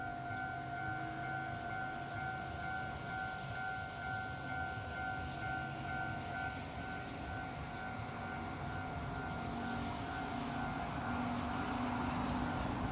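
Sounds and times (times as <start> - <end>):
level crossing warning bell: 0.0 - 12.9.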